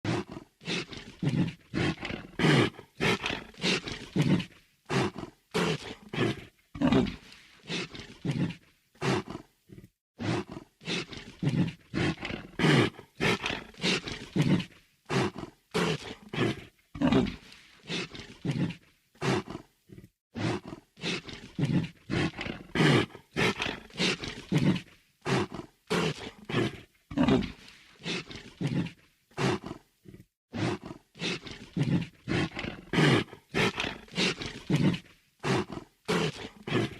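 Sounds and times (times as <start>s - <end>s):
creature heavy breathing: 0.0s - 36.9s.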